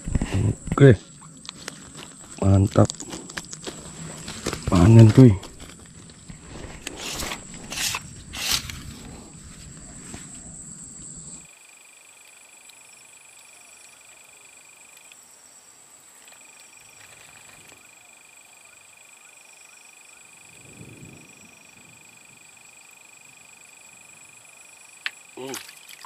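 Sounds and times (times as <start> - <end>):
high trill of frogs and insects: 0.0 - 26.0.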